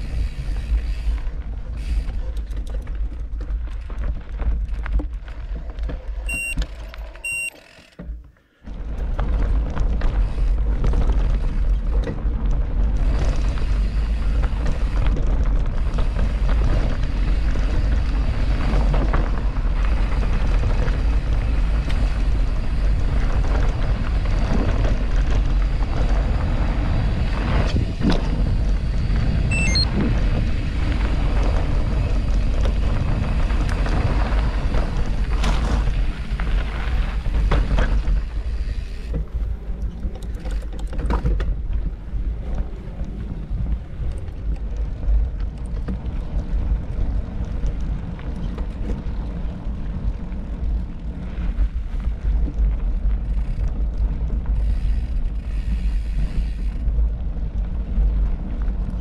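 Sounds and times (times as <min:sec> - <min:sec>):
wind rumble on microphone: 0:00.0 - 0:07.4, 0:08.6 - 0:59.0
bike rattling over ground: 0:00.0 - 0:59.0.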